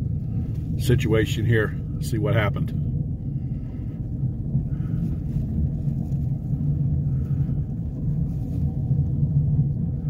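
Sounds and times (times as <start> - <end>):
low rumble inside truck cab: 0.0 - 10.0.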